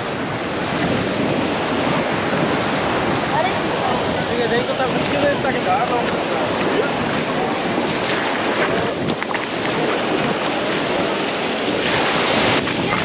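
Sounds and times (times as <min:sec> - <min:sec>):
small waves breaking on a beach: 0:00.0 - 0:13.0
wind on microphone: 0:00.0 - 0:13.0.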